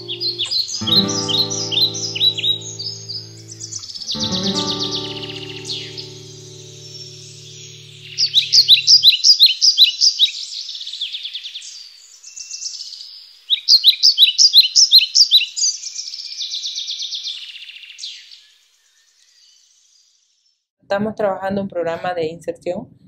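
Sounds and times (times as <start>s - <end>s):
bird chirping: 0.0s - 20.6s.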